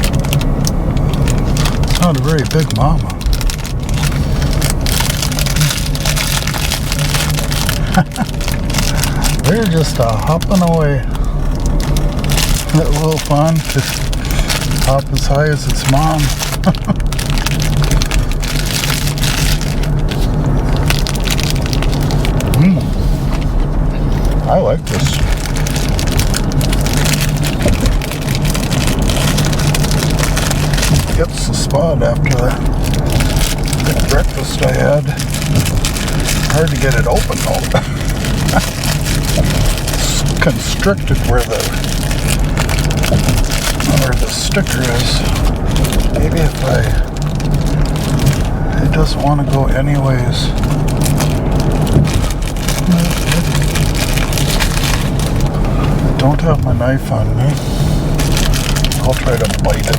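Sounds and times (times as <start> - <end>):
dense crackling: 0.0 - 59.9
steady low hum: 0.0 - 59.9
tires crunching over rough road: 0.0 - 59.9.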